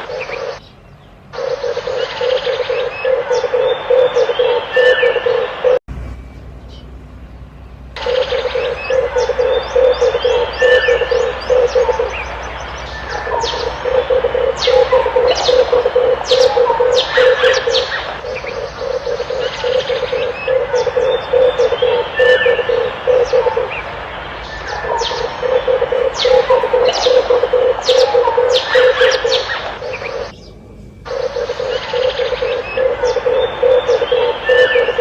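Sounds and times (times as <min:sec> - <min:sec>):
doves cooing: 0:00.0 - 0:00.6, 0:01.4 - 0:05.8, 0:08.0 - 0:30.4, 0:31.1 - 0:35.0
small birds chirping: 0:00.0 - 0:35.0.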